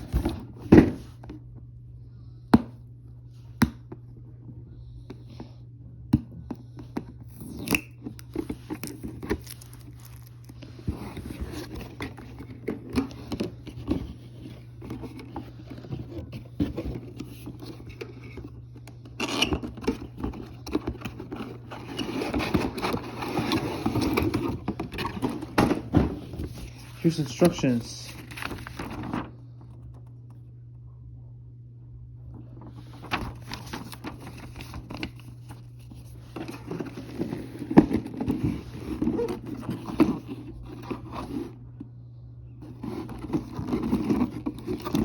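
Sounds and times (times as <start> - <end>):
cardboard and plastic rustling: 0.0 - 1.4, 6.8 - 30.1, 32.2 - 41.6, 42.6 - 45.0.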